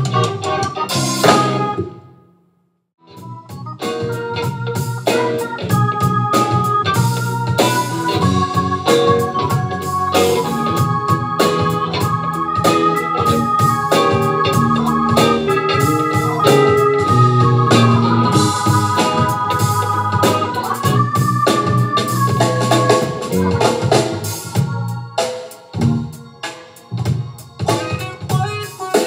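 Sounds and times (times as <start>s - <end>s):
drum kit beat: 0.0s - 2.0s, 3.2s - 29.0s
electric bass: 0.0s - 2.0s, 3.1s - 28.7s
electric guitar: 0.0s - 2.0s, 3.1s - 29.0s
organ keyboard chords: 0.0s - 2.3s, 3.0s - 29.0s.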